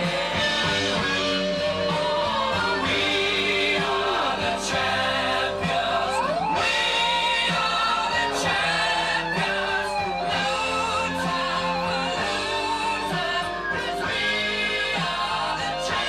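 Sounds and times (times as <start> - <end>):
choir-like vocal harmonies: 0.0 - 16.0
rock guitar and steady beat: 0.0 - 16.0.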